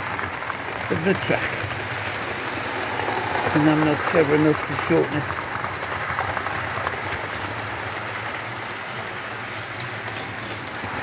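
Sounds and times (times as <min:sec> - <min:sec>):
wheels ticking over rails: 0:00.0 - 0:11.0.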